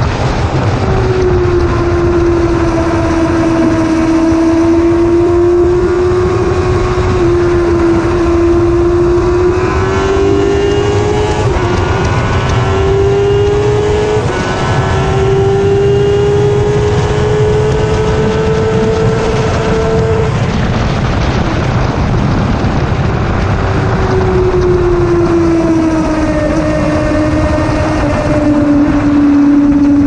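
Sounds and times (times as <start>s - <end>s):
motorcycle engine at high revs: 0.0s - 30.0s
wind buffeting microphone: 0.0s - 30.0s.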